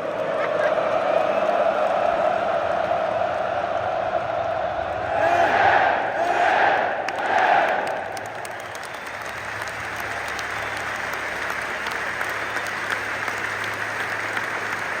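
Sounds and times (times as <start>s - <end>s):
stadium crowd applauding: 0.0s - 15.0s.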